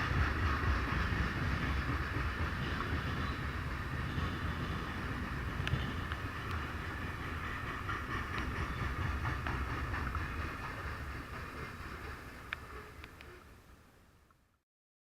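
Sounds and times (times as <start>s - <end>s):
sharp rail clicks: 0.0s - 13.4s
train rumbling on rails: 0.0s - 14.3s.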